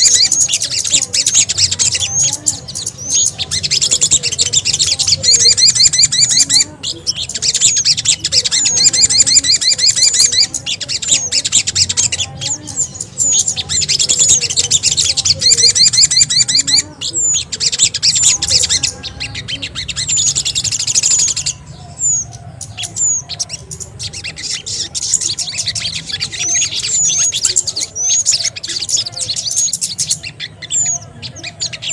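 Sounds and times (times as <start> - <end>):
rapid high bird chirping and trills: 0.0 - 31.9.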